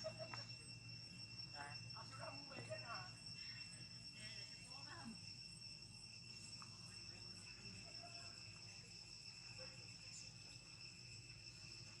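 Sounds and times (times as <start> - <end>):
insects trilling: 0.0 - 12.0
low background hum: 0.0 - 12.0.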